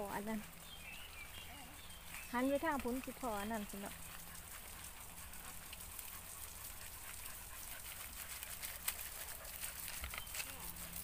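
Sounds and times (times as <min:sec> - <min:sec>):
sprinkler water pattering on leaves: 0:00.0 - 0:11.0.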